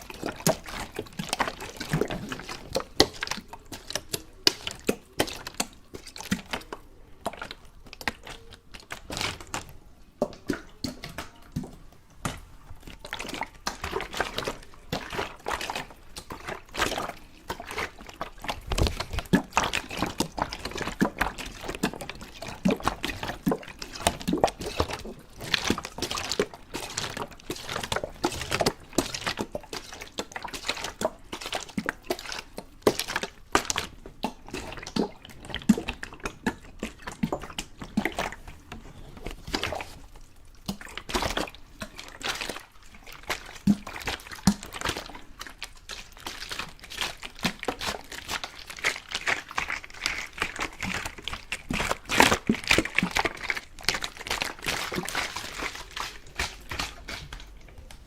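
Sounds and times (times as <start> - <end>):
water dripping and splashing: 0.0 - 58.0.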